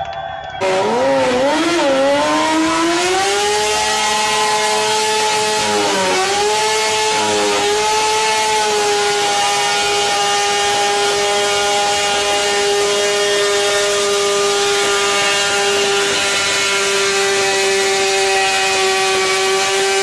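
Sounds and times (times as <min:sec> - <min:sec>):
motorcycle engine at high revs: 0:00.6 - 0:20.0.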